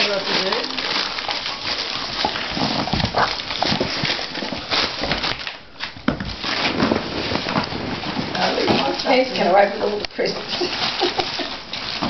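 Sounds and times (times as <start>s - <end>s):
wrapping paper ripping: 0.0s - 12.0s.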